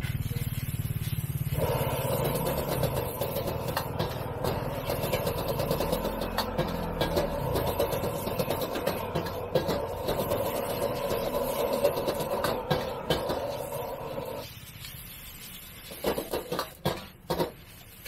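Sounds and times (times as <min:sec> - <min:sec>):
gas burner rushing: 0:00.0 - 0:14.7, 0:15.8 - 0:18.0
ladle scraping and knocking wok: 0:00.0 - 0:18.0.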